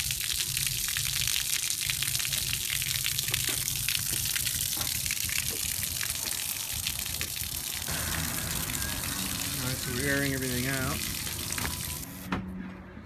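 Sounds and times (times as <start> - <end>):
water gushing onto concrete: 0.0 - 12.3.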